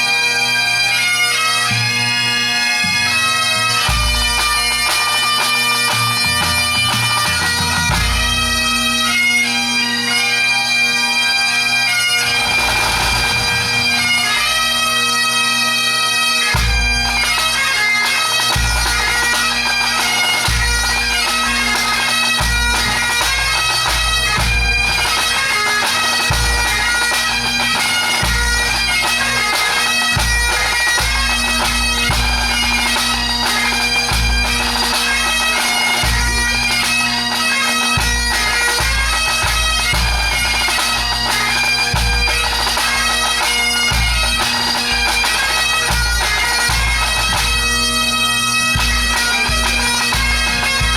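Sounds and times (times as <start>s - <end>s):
bagpipes playing fast melody: 0.0s - 50.9s.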